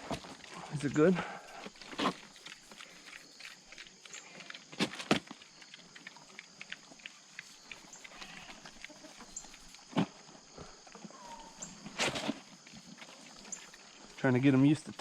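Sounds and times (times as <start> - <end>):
barnyard livestock: 0.0 - 15.0.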